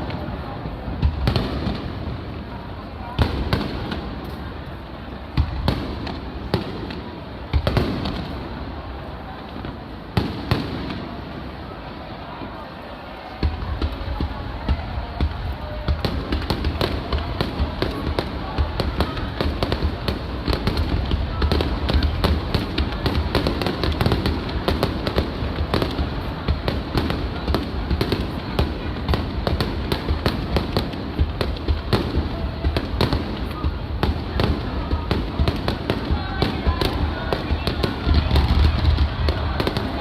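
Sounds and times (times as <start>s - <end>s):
low rumble of fireworks booms: 0.0s - 12.6s, 13.3s - 40.0s
fireworks popping and crackling: 0.0s - 40.0s.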